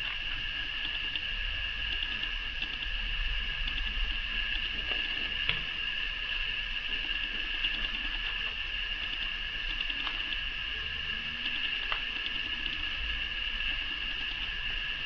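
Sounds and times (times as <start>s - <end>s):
high-pitched electrical whine: 0.0s - 15.0s
low hum: 0.0s - 15.0s.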